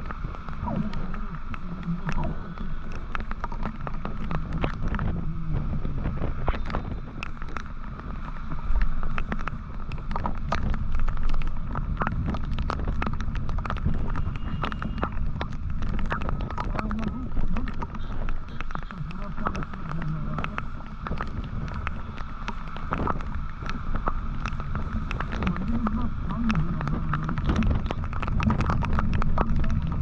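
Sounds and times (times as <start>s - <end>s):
wind on microphone: 0.0s - 30.0s.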